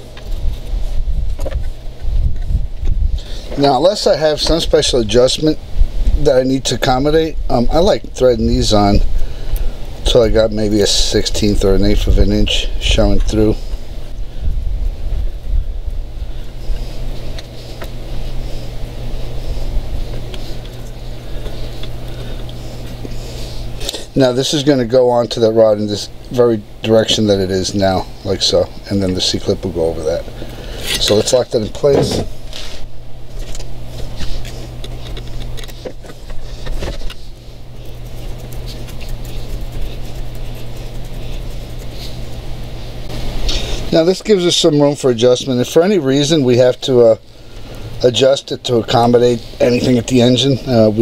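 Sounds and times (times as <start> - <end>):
steady low hum: 0.0 - 51.0
steady low rumble: 0.0 - 51.0.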